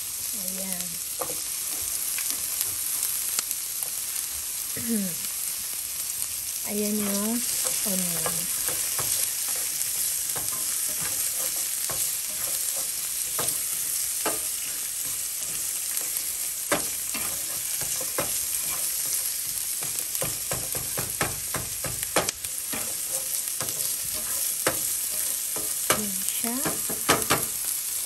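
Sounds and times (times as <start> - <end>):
onion and garlic sizzling: 0.0 - 28.0
spatula scraping and tapping pan: 1.1 - 3.1, 6.9 - 27.7.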